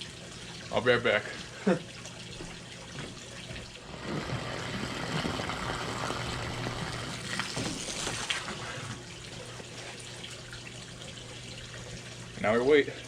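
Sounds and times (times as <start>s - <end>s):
hose water splashing into tub: 0.0s - 13.0s.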